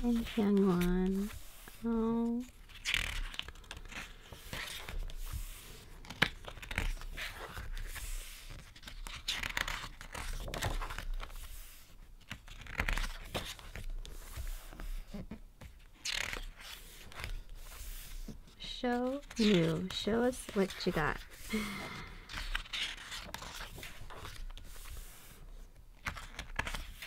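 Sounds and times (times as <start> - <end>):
paper pages rustling and sliding: 0.0 - 27.0.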